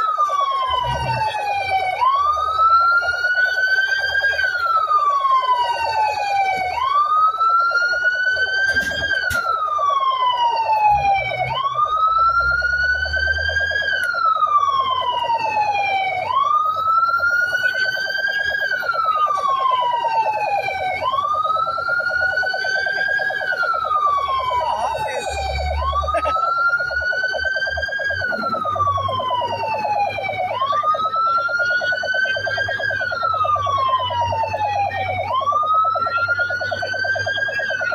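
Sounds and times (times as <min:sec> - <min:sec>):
fire truck siren wailing: 0:00.0 - 0:37.9.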